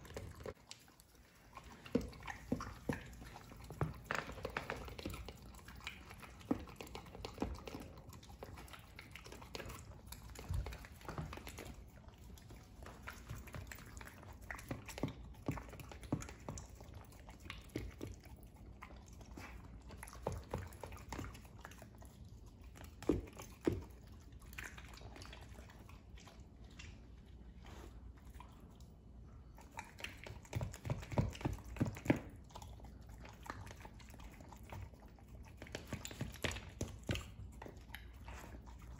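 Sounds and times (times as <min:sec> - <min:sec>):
dog crunching and chewing food: 0:00.0 - 0:38.9.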